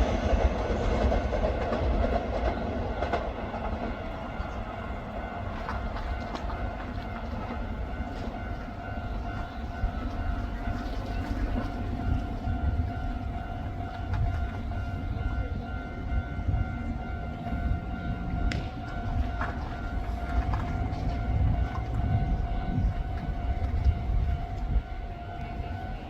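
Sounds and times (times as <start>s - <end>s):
level crossing warning bell: 0.0s - 26.0s
train wheels rumbling on rail: 0.0s - 26.0s.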